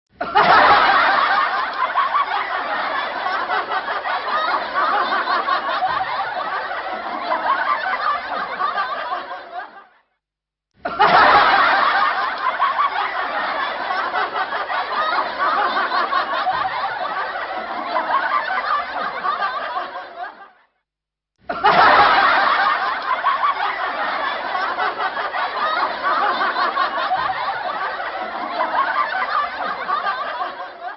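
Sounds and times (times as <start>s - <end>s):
snickering and chuckling laughter: 0.2s - 9.9s, 10.8s - 20.6s, 21.5s - 30.9s.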